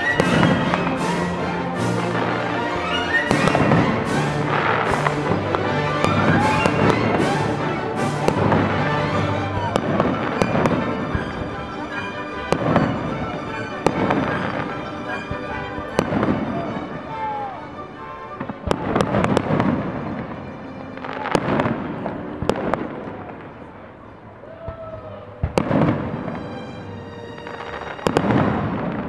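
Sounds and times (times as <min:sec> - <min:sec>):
fireworks bangs and crackles: 0:00.0 - 0:11.8, 0:12.4 - 0:17.5, 0:18.4 - 0:29.0
orchestral music: 0:00.0 - 0:29.0.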